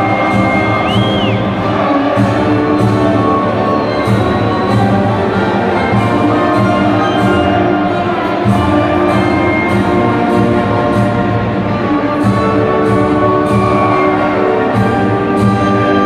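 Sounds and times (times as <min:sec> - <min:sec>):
orchestral music over loudspeakers: 0:00.0 - 0:16.0.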